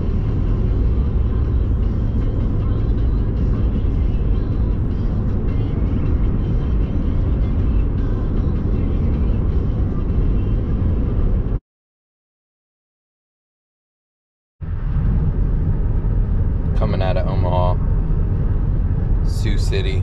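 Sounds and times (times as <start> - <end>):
car road and engine rumble: 0.0 - 11.6, 14.6 - 20.0.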